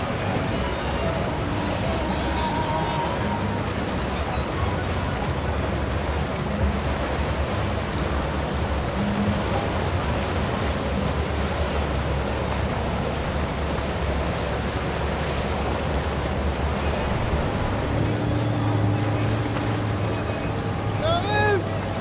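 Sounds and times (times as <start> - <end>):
boat engine hum: 0.0 - 22.0
waves: 0.0 - 22.0
wind over water: 0.0 - 22.0.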